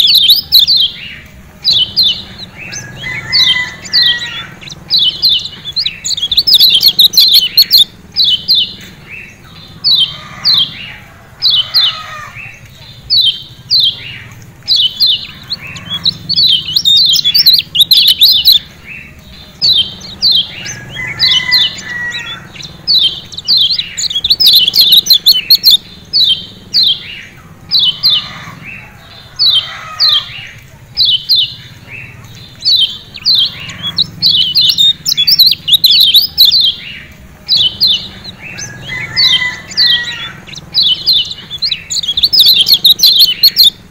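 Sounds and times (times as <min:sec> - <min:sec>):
bird giving sharp calls: 0:00.0 - 0:43.9.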